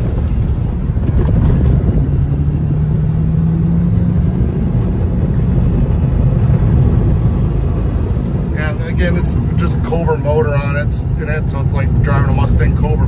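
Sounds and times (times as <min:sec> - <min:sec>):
car engine from inside cabin: 0:00.0 - 0:13.0
road noise: 0:00.0 - 0:13.0.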